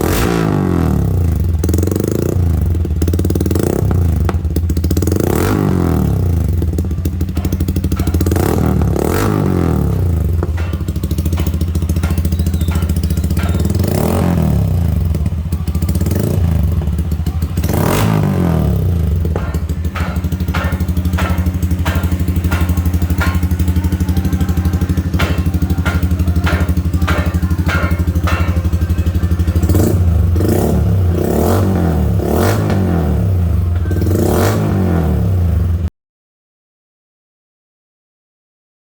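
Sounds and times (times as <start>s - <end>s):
engine throttle blips: 0.0s - 35.9s
motorcycle engine idling: 0.0s - 35.9s.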